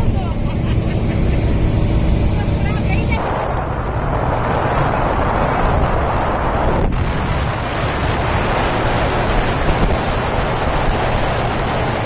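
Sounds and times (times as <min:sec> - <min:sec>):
motorboat engine running: 0:00.0 - 0:12.0
rush of wind and water: 0:00.0 - 0:12.0.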